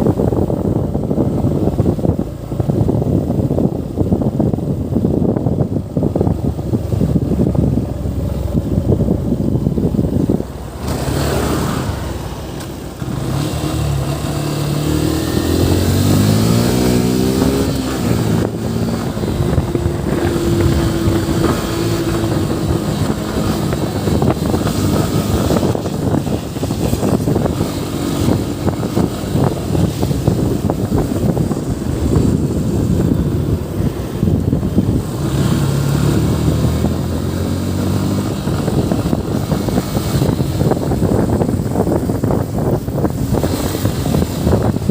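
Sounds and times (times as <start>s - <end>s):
motorcycle engine accelerating: 0.0s - 44.9s
wind buffeting microphone: 0.0s - 44.9s.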